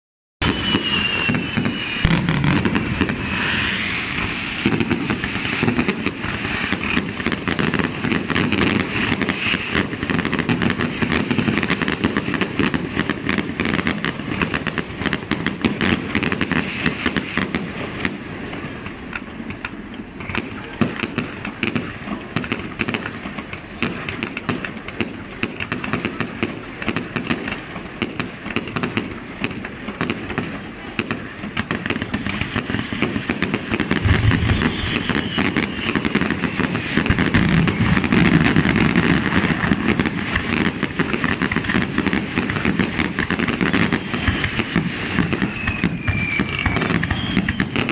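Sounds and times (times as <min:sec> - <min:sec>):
firework whistling: 0:00.4 - 0:47.9
fireworks bursting and crackling: 0:00.4 - 0:47.9.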